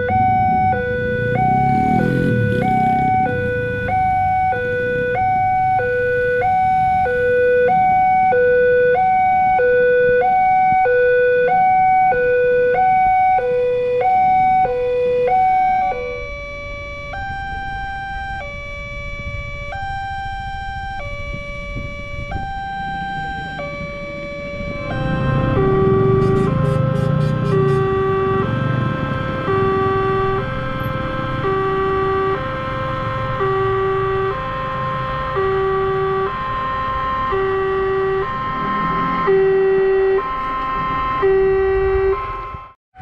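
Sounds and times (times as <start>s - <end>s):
low rumble of traffic: 0.0s - 43.0s
slower two-tone crossing alarm: 0.0s - 43.0s
two-tone level crossing alarm: 0.0s - 43.0s.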